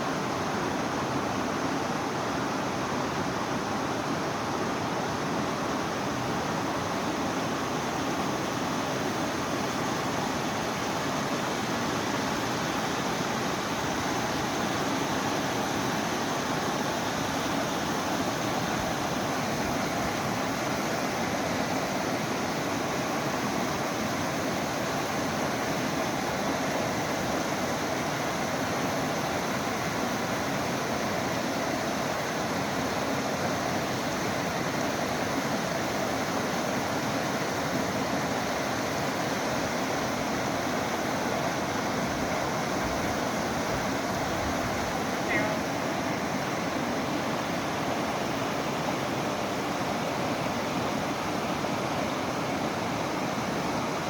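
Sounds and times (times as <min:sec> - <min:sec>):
mountain stream water rushing: 0:00.0 - 0:54.0.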